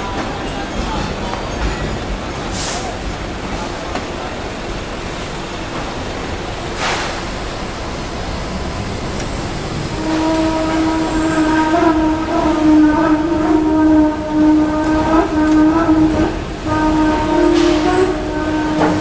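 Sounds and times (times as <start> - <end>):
tram rumbling along street: 0.0 - 19.0.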